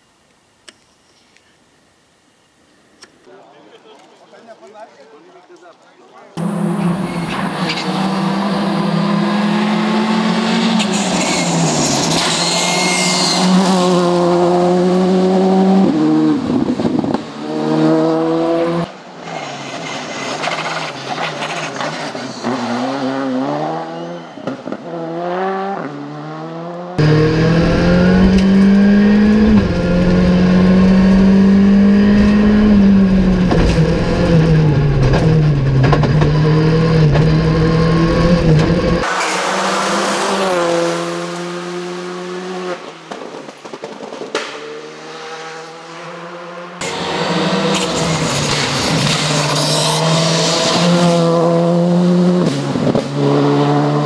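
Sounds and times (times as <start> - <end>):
rally car engine revving: 6.4 - 43.7, 44.4 - 54.0.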